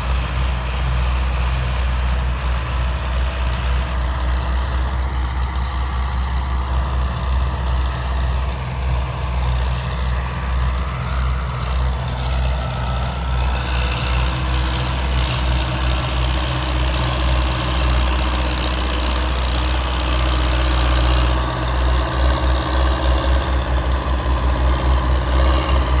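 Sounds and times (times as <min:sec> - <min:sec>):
tractor diesel engine rumbling: 0:00.0 - 0:26.0.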